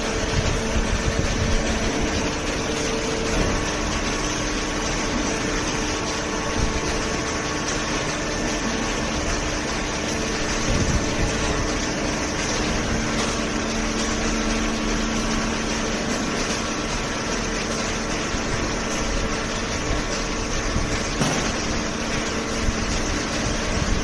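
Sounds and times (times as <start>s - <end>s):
hydraulic baler power unit hum: 0.0s - 24.0s.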